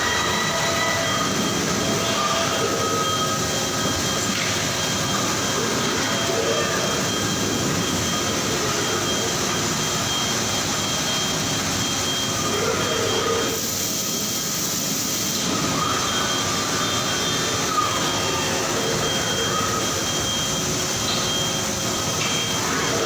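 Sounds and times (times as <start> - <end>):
factory machinery whirring: 0.0 - 23.0.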